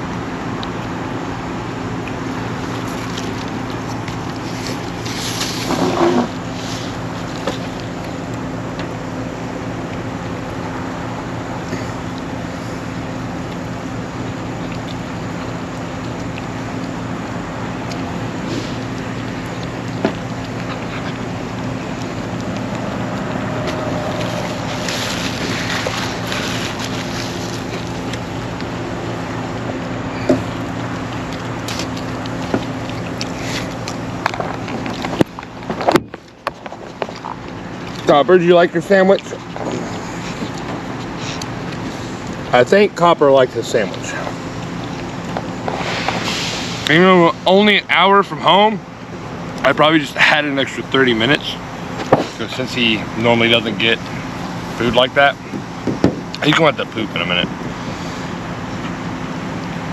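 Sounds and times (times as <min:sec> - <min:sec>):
wind and road noise: 0:00.0 - 0:47.8, 0:48.4 - 0:59.9
low hum: 0:00.0 - 0:59.9
truck engine droning: 0:00.0 - 0:59.9.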